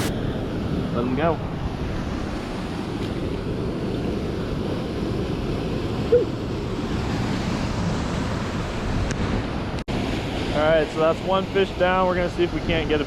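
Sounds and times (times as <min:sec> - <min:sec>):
waterfall and creek rushing: 0:00.7 - 0:13.0.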